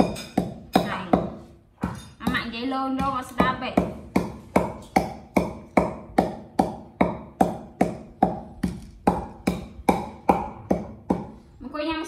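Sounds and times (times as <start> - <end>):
wooden pestle pounding in mortar: 0.0 - 11.6.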